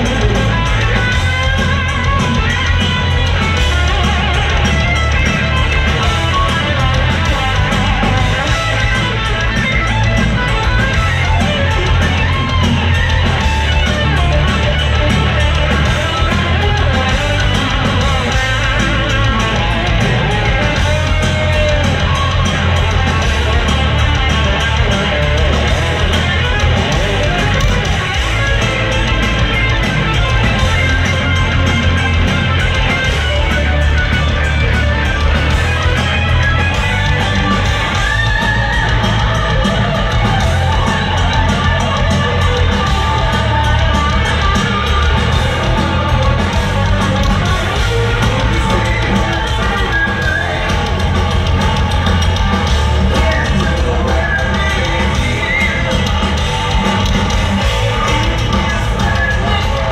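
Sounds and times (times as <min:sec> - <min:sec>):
bass guitar: 0:00.0 - 0:59.9
distorted electric guitar solo: 0:00.0 - 0:59.9
drums: 0:00.0 - 0:59.9.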